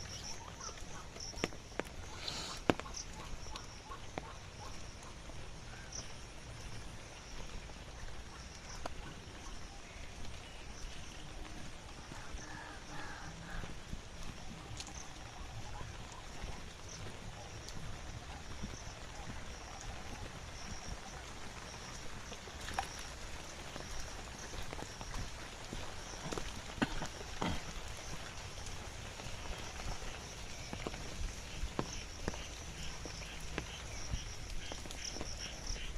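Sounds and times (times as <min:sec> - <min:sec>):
frogs or insects chirping: 0:00.0 - 0:35.9
rain hissing: 0:00.0 - 0:35.9
running floodwater: 0:00.0 - 0:35.9.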